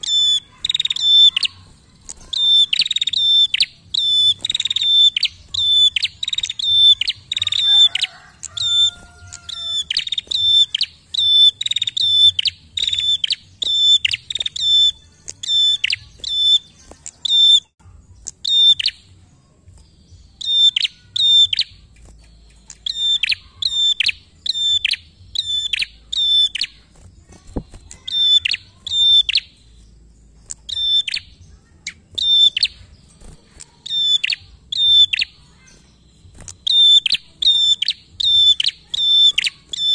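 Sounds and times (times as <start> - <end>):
bird calling sharp repeated notes: 0.0 - 19.1, 20.4 - 29.8, 30.4 - 39.9.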